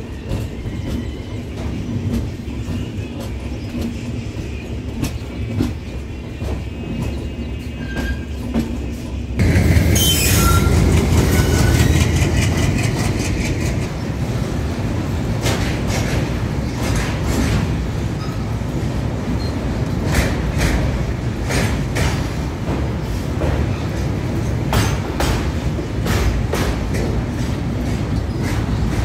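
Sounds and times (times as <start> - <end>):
freight train rumbling past: 0.0 - 29.0
wheels clacking over rail joints: 0.0 - 29.0.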